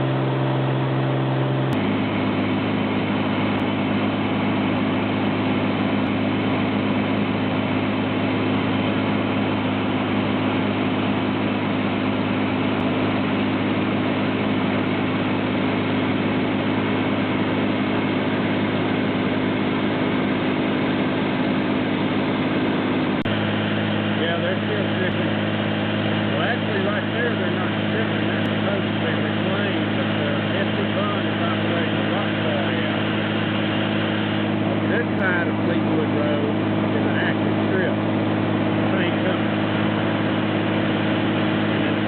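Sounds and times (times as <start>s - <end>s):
light aircraft engine drone: 0.0s - 42.0s.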